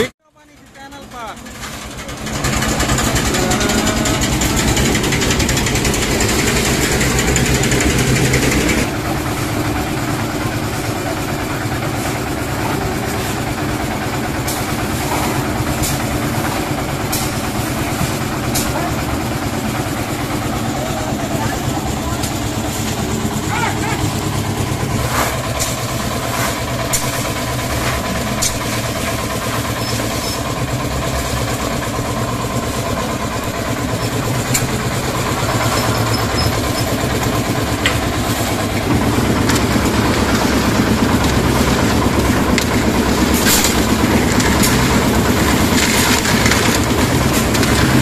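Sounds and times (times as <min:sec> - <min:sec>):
concrete mixer engine running: 0:00.0 - 0:48.0.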